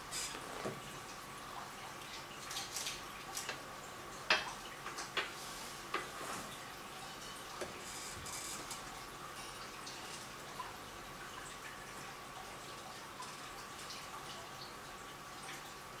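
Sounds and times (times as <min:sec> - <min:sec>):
faint hum and hiss: 0:00.0 - 0:16.0
water dripping and plinking: 0:00.0 - 0:16.0.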